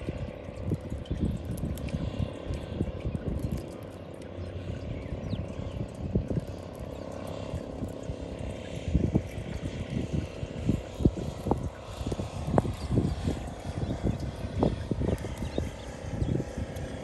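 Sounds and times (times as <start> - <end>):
wind on the microphone: 0.0 - 17.0.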